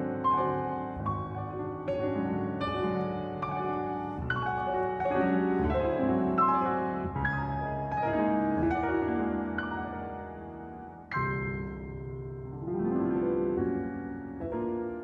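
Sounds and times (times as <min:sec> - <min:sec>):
solo grand piano: 0:00.0 - 0:15.0.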